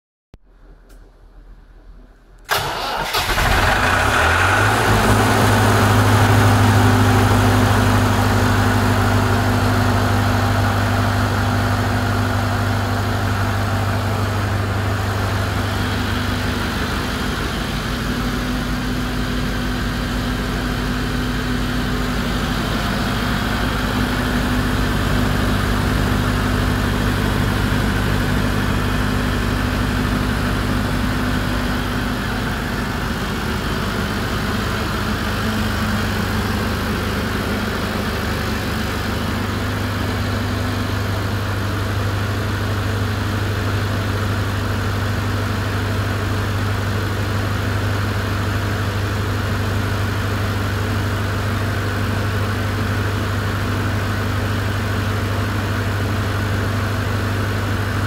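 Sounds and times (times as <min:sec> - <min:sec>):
diesel generator starting and running: 0:00.4 - 0:58.0.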